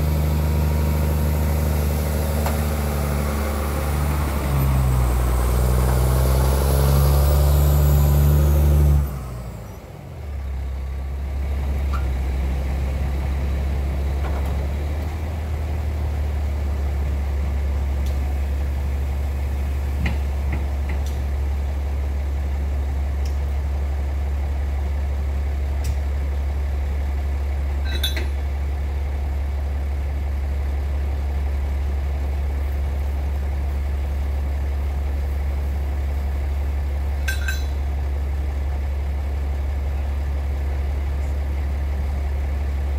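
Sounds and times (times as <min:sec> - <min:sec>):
heavy diesel engine: 0:00.0 - 0:42.9.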